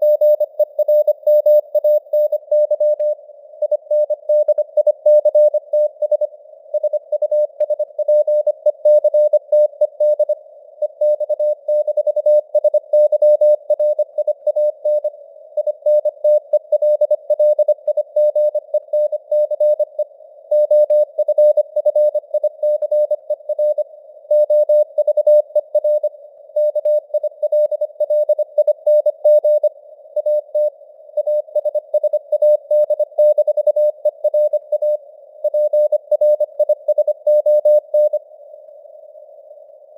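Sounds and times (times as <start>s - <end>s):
morse code beeps: 0.0s - 38.2s.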